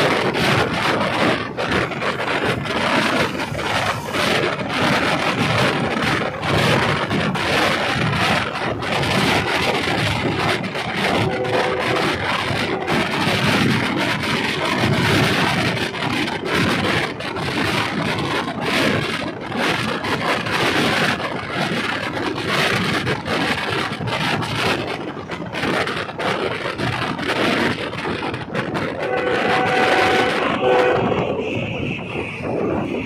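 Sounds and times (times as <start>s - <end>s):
railcar rattling clatter: 0.0s - 33.0s.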